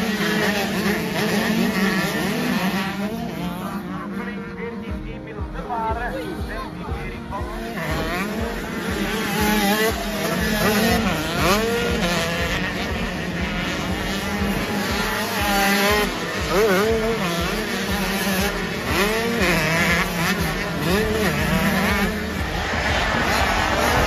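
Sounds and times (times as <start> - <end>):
motocross bikes revving: 0.0 - 24.0.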